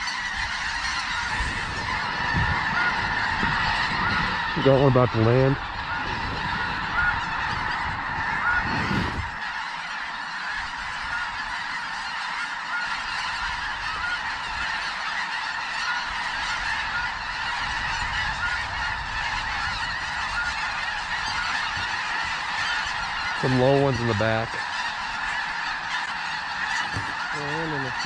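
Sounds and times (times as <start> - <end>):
geese honking: 0.0 - 28.0.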